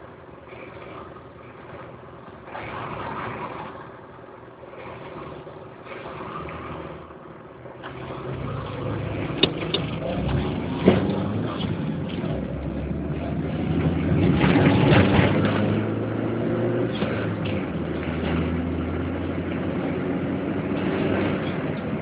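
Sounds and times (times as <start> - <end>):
car engine: 0.0 - 22.0
road traffic noise: 0.0 - 22.0.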